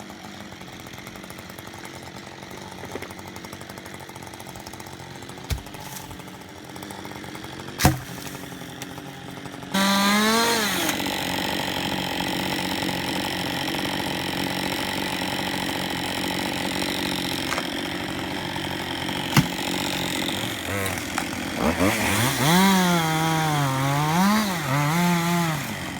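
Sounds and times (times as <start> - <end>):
chainsaw idling and revving: 0.0 - 25.9.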